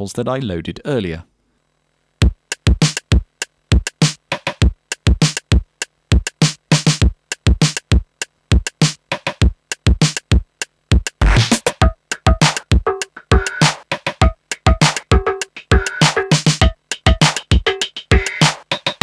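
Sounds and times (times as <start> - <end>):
drum machine beat: 2.2 - 19.0.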